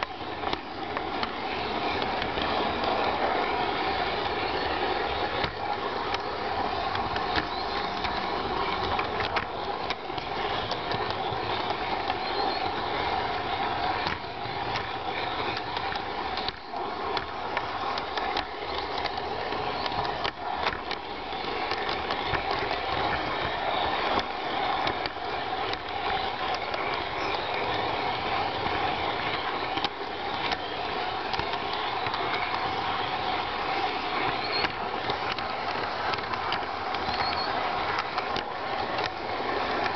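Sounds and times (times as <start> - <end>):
model train motor whir: 0.0 - 39.9
wheels clicking on rails: 0.0 - 39.9.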